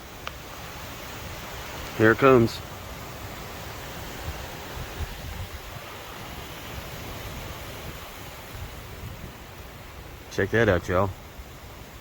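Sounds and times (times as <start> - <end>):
gusty wind rushing: 0.0 - 12.0
wind buffeting microphone: 0.0 - 12.0.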